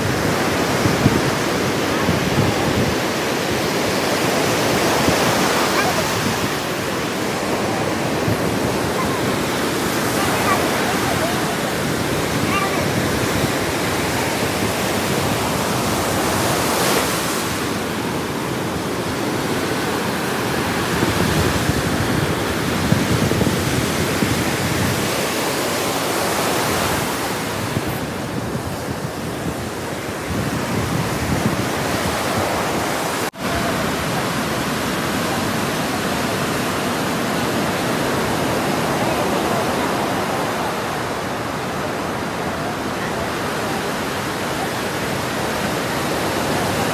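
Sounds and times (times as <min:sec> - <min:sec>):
heavy surf breaking: 0:00.0 - 0:46.9.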